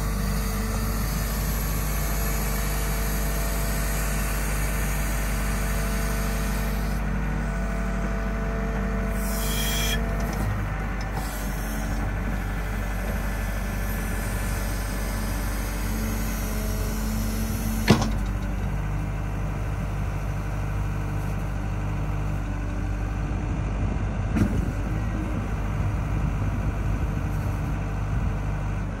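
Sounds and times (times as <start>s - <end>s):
diesel excavator engine running: 0.0s - 29.0s.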